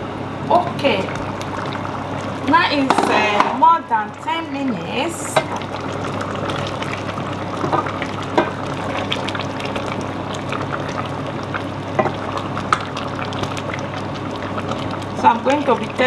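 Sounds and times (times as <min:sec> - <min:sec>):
soup bubbling: 0:00.4 - 0:16.0.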